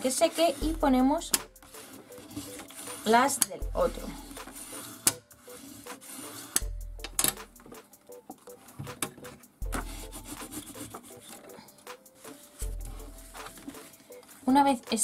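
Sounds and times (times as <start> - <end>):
cardstock rubbing and sliding: 0.0 - 6.6, 8.5 - 14.6.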